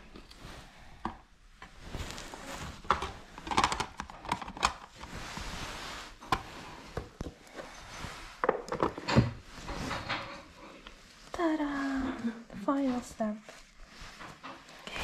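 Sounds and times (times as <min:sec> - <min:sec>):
soft rustle: 0:00.0 - 0:03.4, 0:04.9 - 0:08.4, 0:09.4 - 0:15.0.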